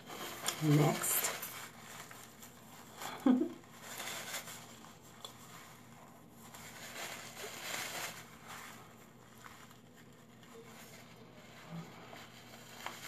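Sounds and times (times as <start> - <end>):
paper tissue rustling: 0.0 - 13.0.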